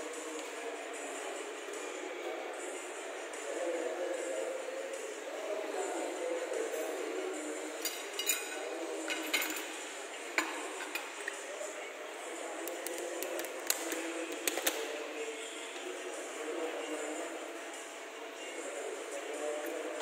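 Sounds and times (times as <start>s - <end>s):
background murmur: 0.0s - 20.0s.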